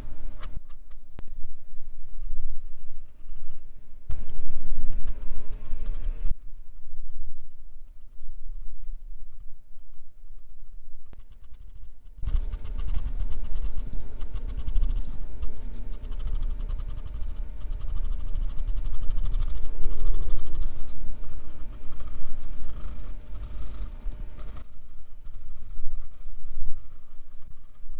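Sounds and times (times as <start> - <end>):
pencil scratching on paper: 2.6 - 27.9.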